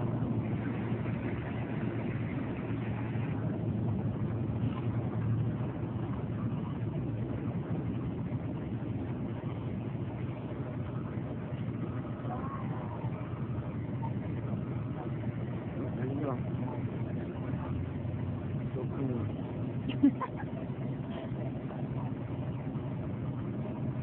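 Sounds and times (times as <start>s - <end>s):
faint crowd chatter: 0.0s - 24.0s
low rumbling noise: 0.0s - 24.0s.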